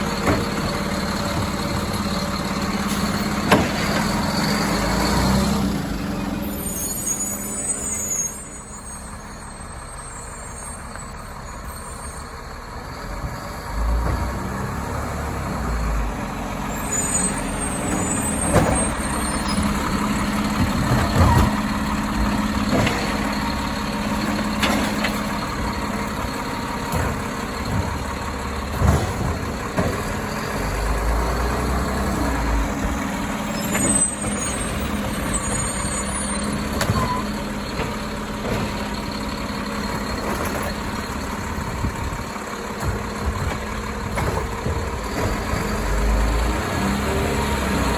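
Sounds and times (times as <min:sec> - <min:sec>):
garbage truck engine hum: 0:00.0 - 0:47.9.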